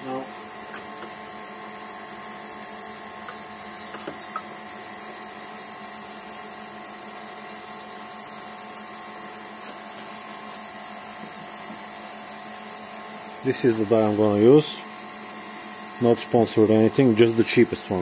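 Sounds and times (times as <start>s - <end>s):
vacuum pump whirring: 0.0s - 18.0s.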